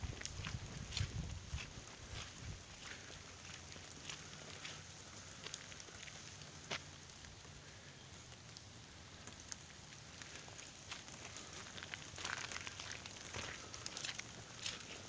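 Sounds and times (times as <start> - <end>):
footsteps on wet gravel: 0.0 - 15.0.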